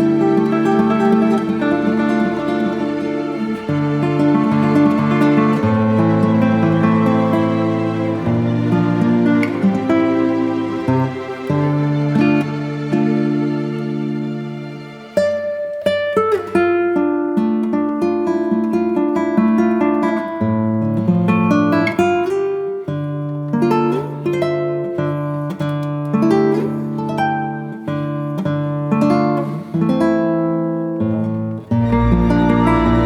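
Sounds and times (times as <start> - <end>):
acoustic guitar picking melody: 0.0 - 33.0.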